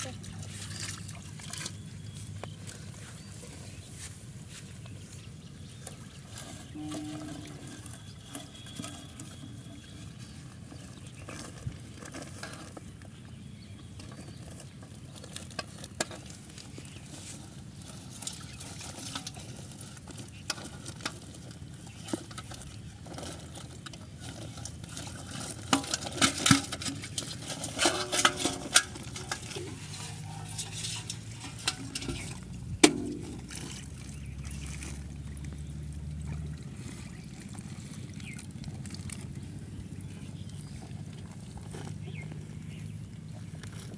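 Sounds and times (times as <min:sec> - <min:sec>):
rustling and scraping: 0:00.1 - 0:35.6, 0:36.8 - 0:43.9.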